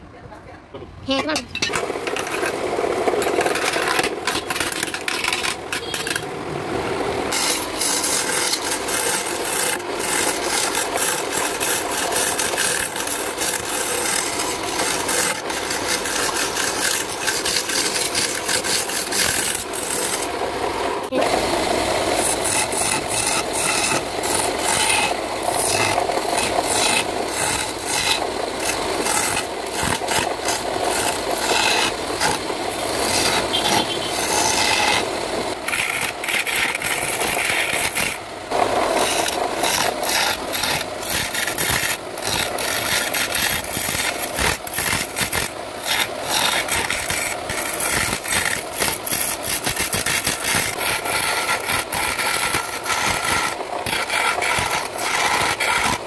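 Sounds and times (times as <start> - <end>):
chisel scraping wood on lathe: 1.7 - 6.4, 7.2 - 56.0.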